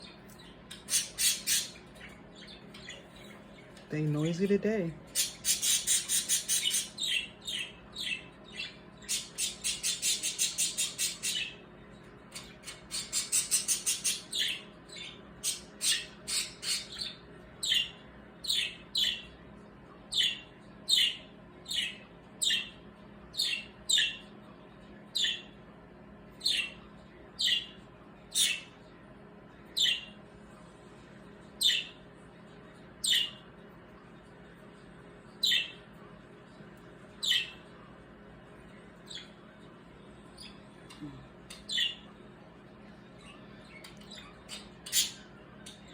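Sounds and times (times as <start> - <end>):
birds squawking and chattering: 0.0 - 30.3, 31.2 - 33.6, 35.1 - 36.0, 37.0 - 45.9.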